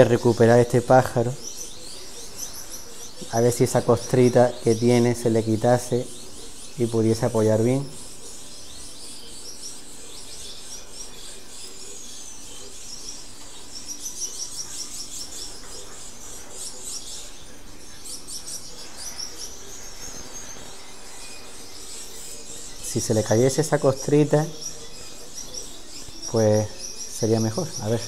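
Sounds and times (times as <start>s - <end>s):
finches chirping: 0.0s - 28.0s.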